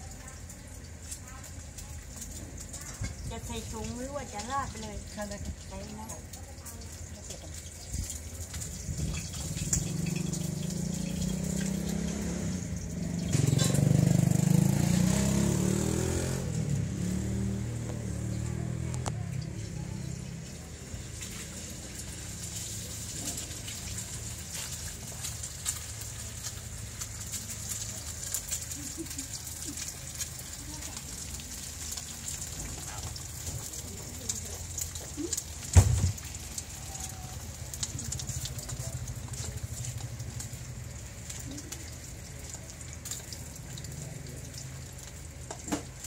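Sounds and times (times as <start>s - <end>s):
vehicle engine rumbling: 1.6s - 46.0s.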